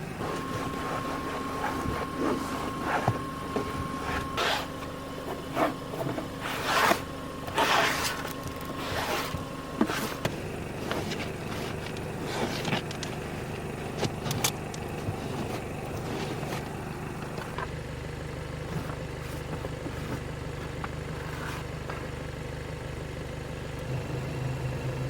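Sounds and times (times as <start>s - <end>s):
scraping and rustling: 0.2s - 17.6s, 18.7s - 22.2s.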